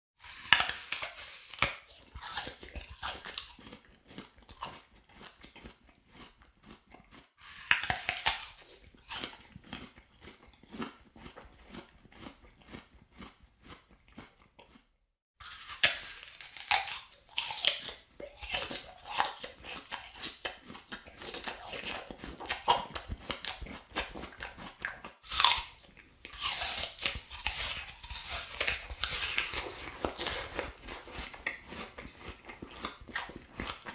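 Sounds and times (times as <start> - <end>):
apple crunching bites: 0.2 - 33.9
chewing crunches: 0.2 - 33.9.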